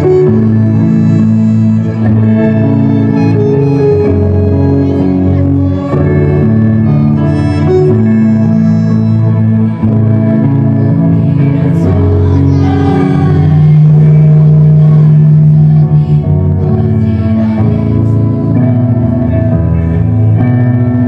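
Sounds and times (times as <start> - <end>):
loud music with long held notes: 0.0 - 21.0.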